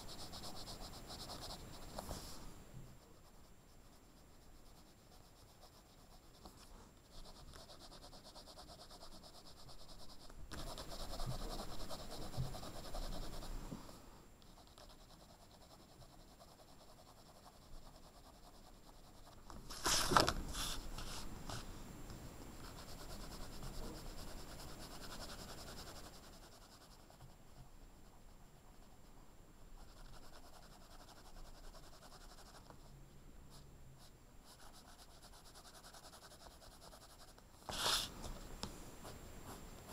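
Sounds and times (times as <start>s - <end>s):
pencil scratching on paper: 0.0s - 13.6s, 14.4s - 21.6s, 22.4s - 29.2s, 29.8s - 32.9s, 34.0s - 38.1s.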